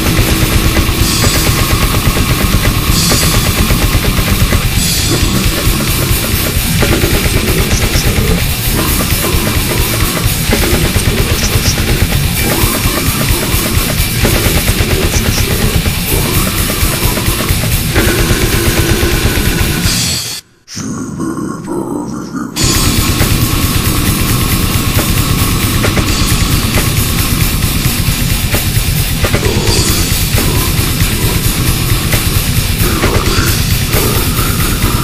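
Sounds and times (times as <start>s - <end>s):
fast dense drumming: 0.0s - 20.4s, 22.6s - 35.0s
loud distorted guitars: 0.0s - 20.6s, 22.6s - 35.0s.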